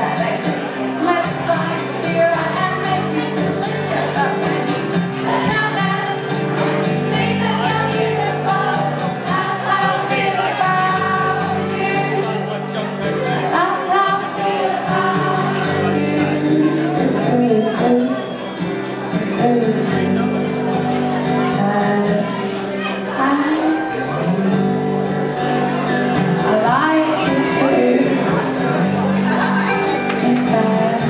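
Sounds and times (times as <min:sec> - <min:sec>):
woman singing into a microphone: 0:00.0 - 0:12.5, 0:13.4 - 0:18.2, 0:19.1 - 0:20.6, 0:21.2 - 0:24.9, 0:26.4 - 0:31.0
live pop band accompaniment: 0:00.0 - 0:31.0.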